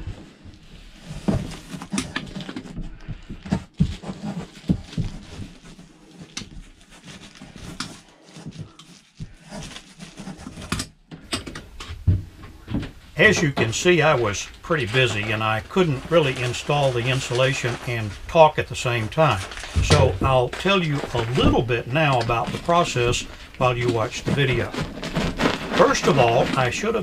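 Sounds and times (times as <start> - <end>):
hand rustling and scraping: 0.0 - 11.0, 11.6 - 27.0.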